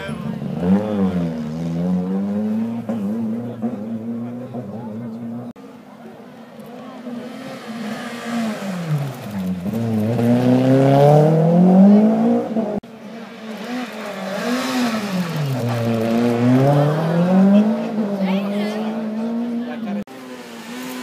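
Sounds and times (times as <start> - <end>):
rally car engine revving: 0.0 - 5.6, 6.6 - 21.0.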